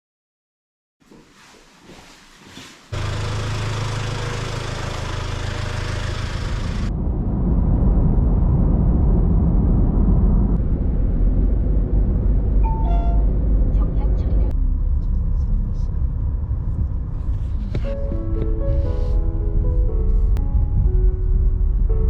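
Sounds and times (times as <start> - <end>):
vehicle engine and road noise: 2.9 - 22.0.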